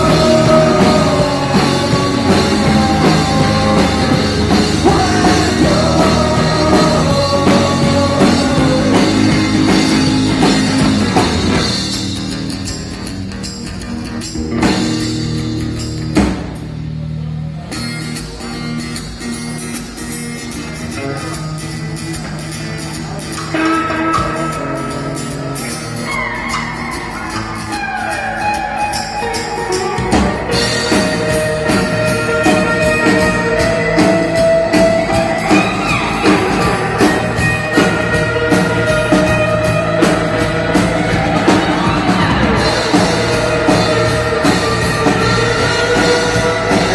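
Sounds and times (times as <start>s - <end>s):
drum kit beat: 0.0s - 46.9s
guitar music: 0.0s - 46.9s.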